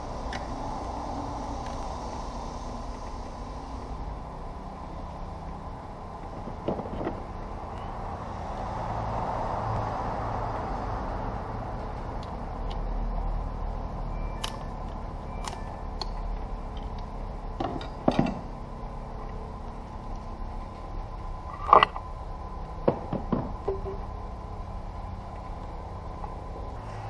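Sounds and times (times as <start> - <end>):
steady workshop hum: 0.0 - 27.0.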